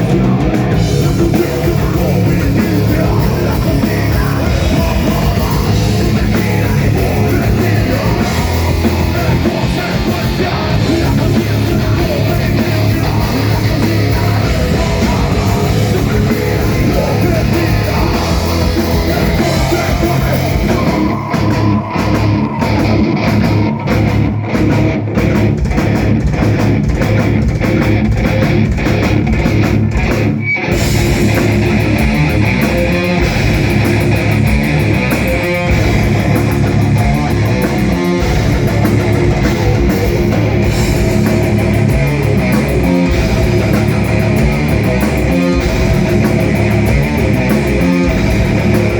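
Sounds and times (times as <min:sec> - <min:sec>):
heavy metal band playing live: 0:00.0 - 0:48.9.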